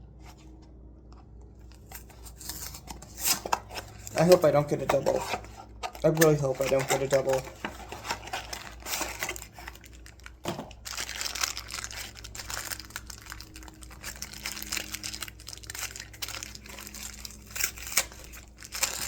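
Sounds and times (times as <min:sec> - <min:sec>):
plastic packaging crackling: 0:01.7 - 0:19.0.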